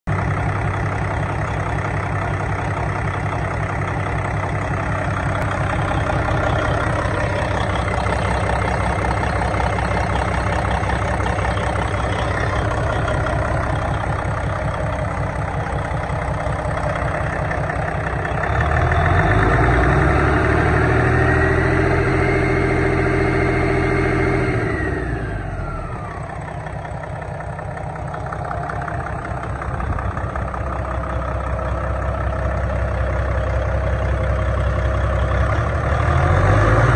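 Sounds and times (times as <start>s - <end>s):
diesel engine idling and revving: 0.0s - 36.9s.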